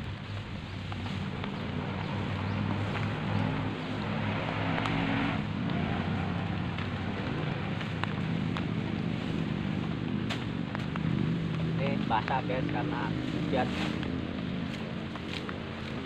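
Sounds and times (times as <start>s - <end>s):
low steady rumble: 0.0s - 16.0s
rain hiss: 0.0s - 16.0s.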